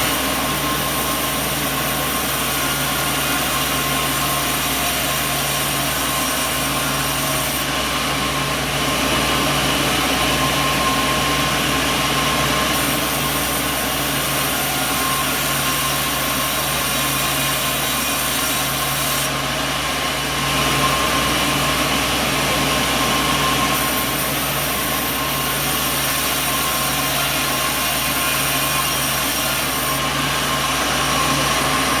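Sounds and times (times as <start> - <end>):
sawmill machinery running: 0.0 - 32.0.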